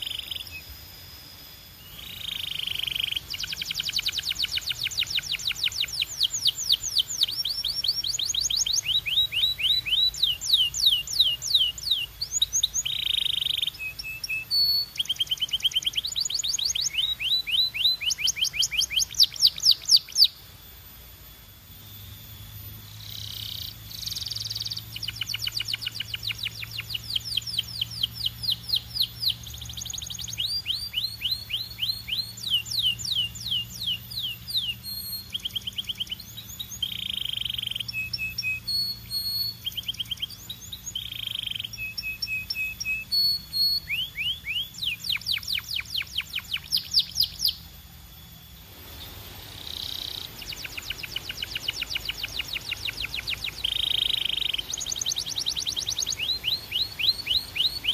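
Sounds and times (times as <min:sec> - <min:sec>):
canary singing trills: 0:00.0 - 0:20.5, 0:21.8 - 0:57.9
steady low hum: 0:00.0 - 0:57.9.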